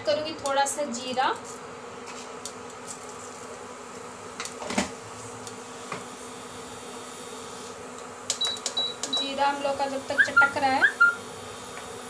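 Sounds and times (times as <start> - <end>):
induction cooktop buzz: 0.0 - 12.0
seeds sizzling in hot oil: 0.3 - 12.0.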